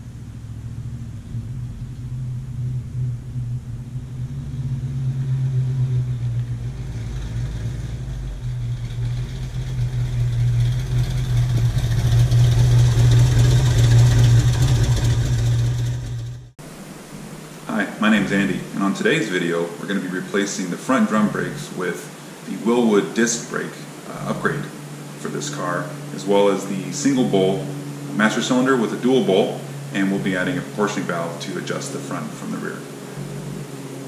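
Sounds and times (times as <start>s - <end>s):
car engine exhaust hum: 0.0s - 34.0s.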